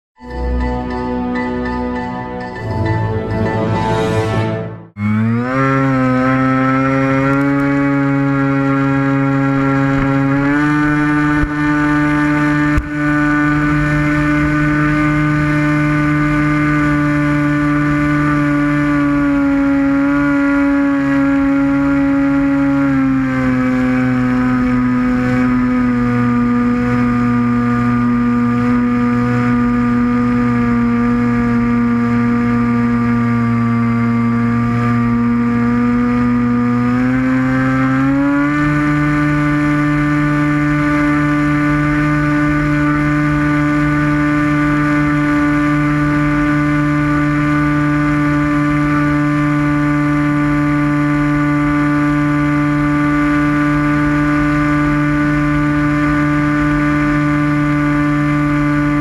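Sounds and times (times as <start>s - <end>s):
electric motor propeller whine: 4.9s - 59.0s.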